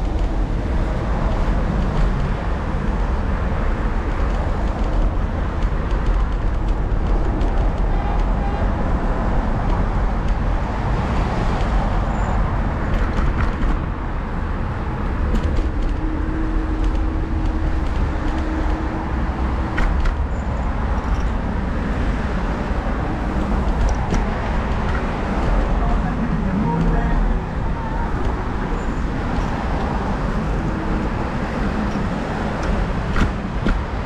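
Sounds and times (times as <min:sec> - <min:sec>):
low traffic rumble: 0:00.0 - 0:34.0.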